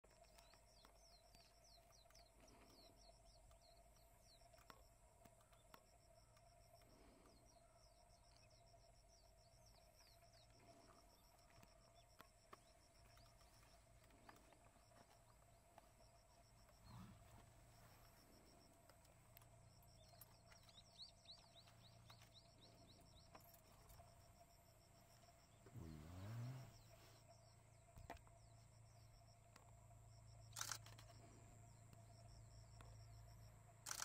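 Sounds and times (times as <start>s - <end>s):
distant birds chirping: 0.0s - 34.0s
faint steady hum: 0.0s - 34.0s.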